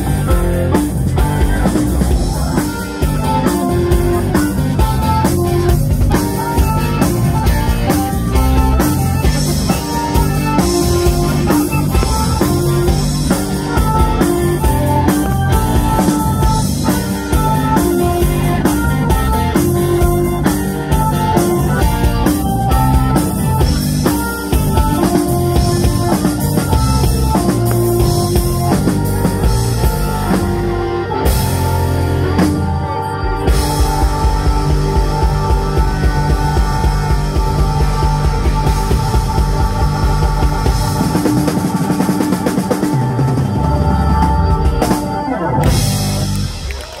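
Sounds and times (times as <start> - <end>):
bass: 0.0 - 47.0
drum kit: 0.0 - 47.0
electric guitar: 0.0 - 47.0
keyboards: 0.0 - 47.0.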